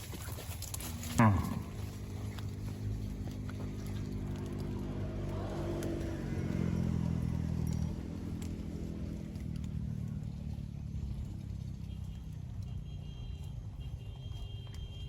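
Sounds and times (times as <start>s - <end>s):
motor engine running: 0.0s - 13.6s.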